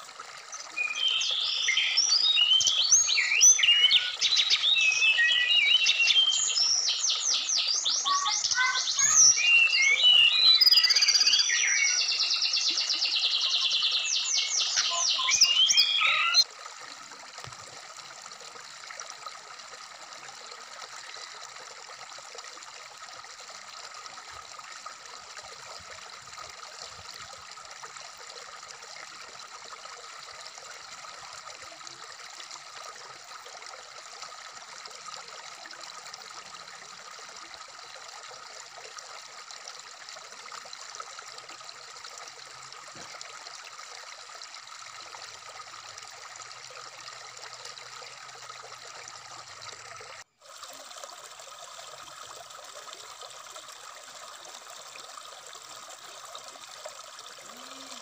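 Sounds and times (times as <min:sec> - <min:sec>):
water running over stones: 0:00.0 - 0:58.0.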